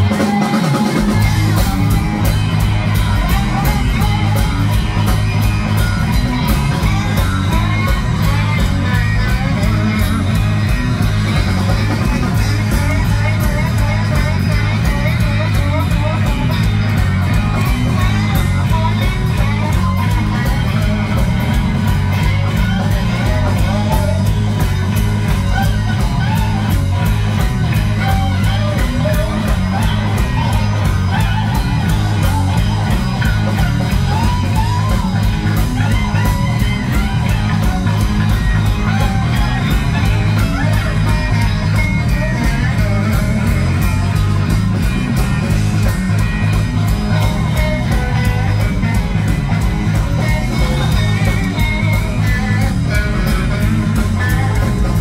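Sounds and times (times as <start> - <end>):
electric guitars: 0.0 - 55.0
heavy bass: 0.0 - 55.0
steady drum beat: 0.0 - 55.0.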